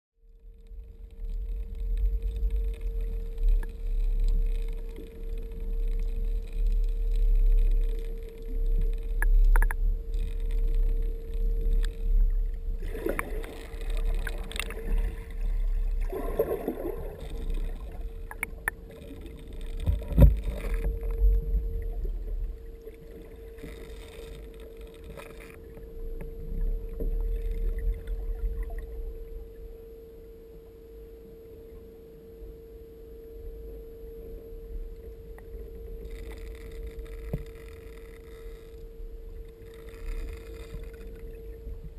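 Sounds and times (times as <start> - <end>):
steady hum: 0.2 - 41.9
underwater rumble of moving water: 0.2 - 41.9.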